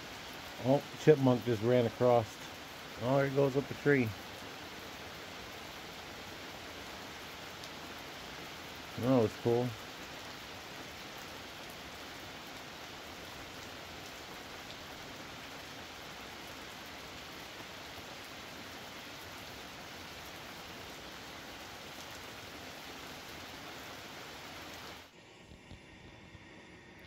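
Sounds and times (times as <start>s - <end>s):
hard rain falling: 0.0s - 25.1s.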